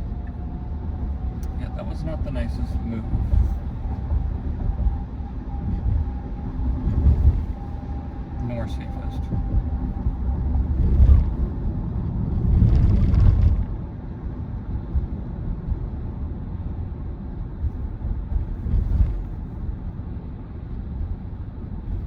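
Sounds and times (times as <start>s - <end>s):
road and tyre rumble in car: 0.0s - 22.0s.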